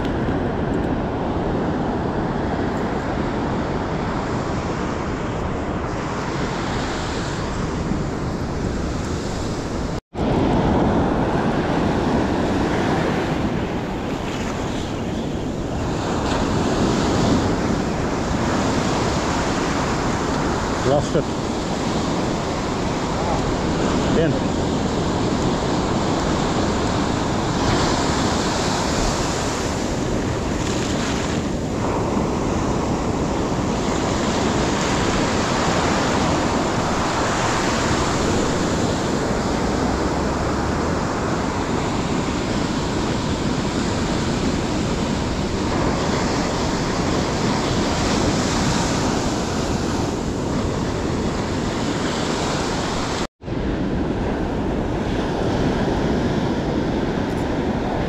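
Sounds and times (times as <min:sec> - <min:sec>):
ocean surf breaking: 0:00.0 - 0:58.0
wind buffeting microphone: 0:00.0 - 0:58.0.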